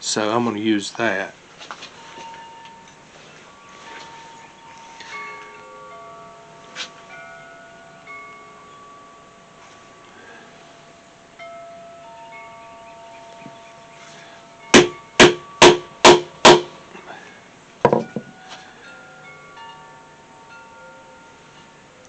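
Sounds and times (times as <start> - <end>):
sustained ringing tones: 1.4 - 22.0.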